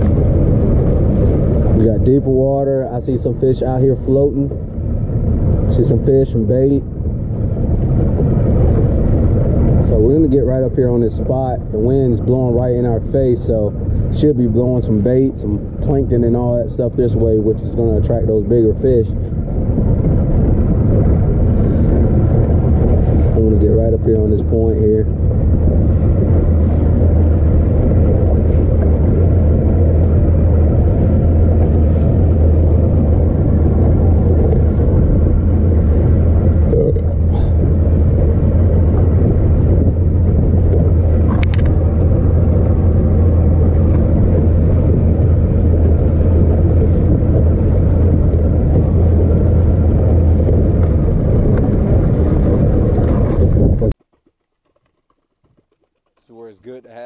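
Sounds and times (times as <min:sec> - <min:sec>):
water rushing: 0:00.0 - 0:53.9
outboard motor drone: 0:00.0 - 0:57.0
wind: 0:00.0 - 0:57.0.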